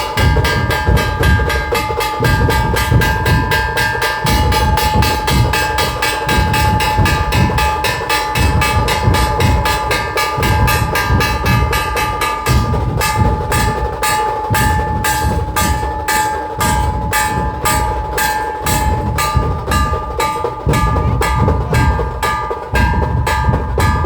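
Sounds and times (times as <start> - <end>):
booming drum beats: 0.0 - 24.0
drum ensemble playing fast rhythm: 0.0 - 24.0
metallic ringing: 0.0 - 24.0.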